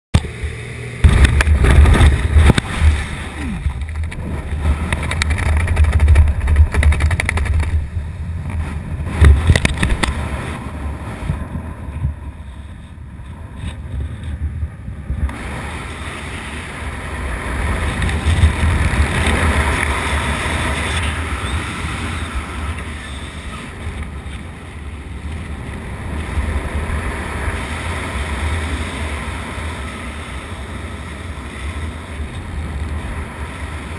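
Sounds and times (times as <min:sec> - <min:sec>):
wind buffeting microphone: 0:00.2 - 0:33.9.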